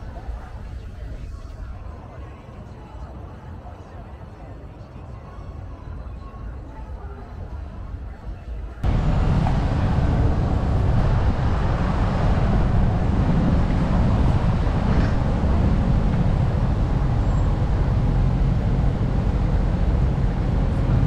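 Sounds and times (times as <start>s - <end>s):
city street traffic rumble: 0.0s - 21.0s.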